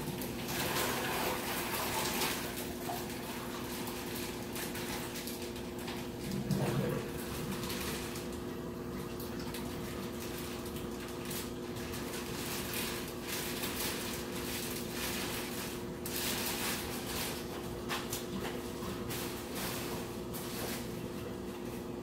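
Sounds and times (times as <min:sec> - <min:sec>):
water boiling and bubbling: 0:00.0 - 0:22.0.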